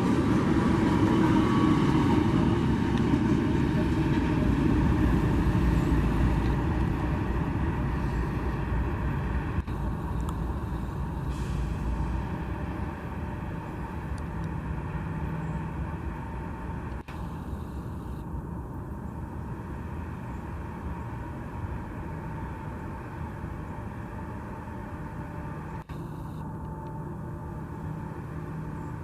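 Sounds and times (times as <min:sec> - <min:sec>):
diesel engine drone: 0:00.0 - 0:29.0.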